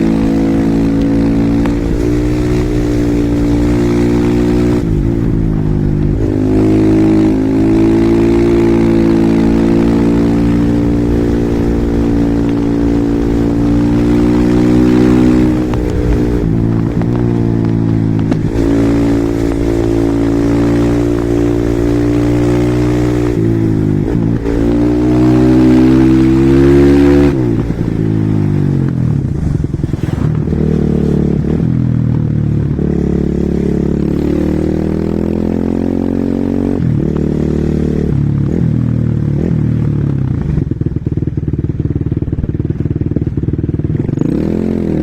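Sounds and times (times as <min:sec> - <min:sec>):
motorcycle engine pulling hard: 0:00.0 - 0:45.0.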